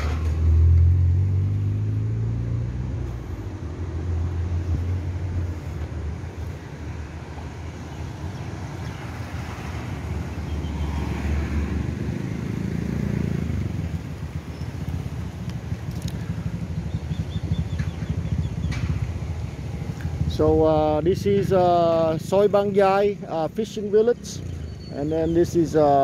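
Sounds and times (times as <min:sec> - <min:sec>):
road traffic rumble: 0:00.0 - 0:26.0
vehicle passing: 0:00.0 - 0:26.0.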